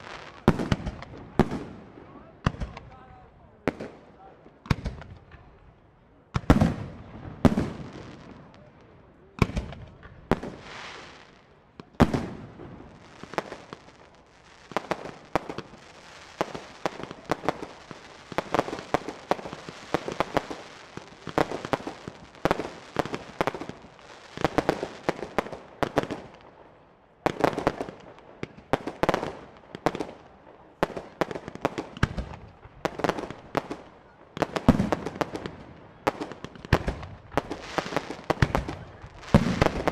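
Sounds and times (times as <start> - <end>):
firework crackling: 0.0 - 3.0, 9.4 - 26.6, 27.3 - 39.9.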